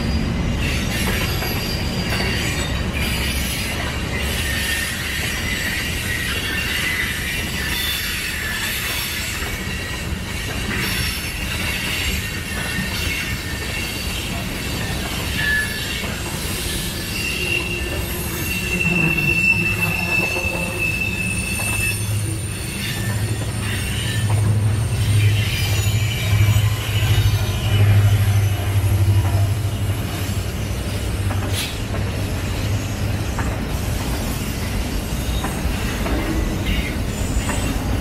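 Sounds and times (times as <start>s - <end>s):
freight train rumbling past: 0.0s - 38.0s
train wheels squealing: 0.0s - 38.0s.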